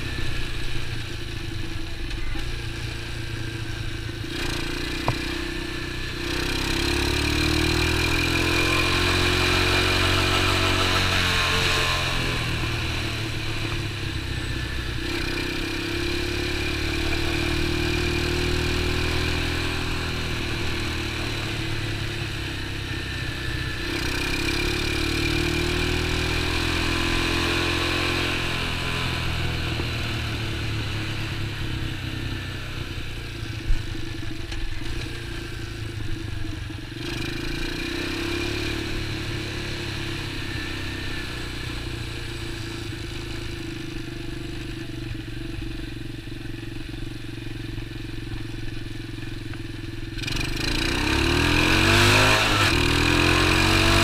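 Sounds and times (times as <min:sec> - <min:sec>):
small motorbike engine revving: 0:00.0 - 0:45.7, 0:48.7 - 0:54.0.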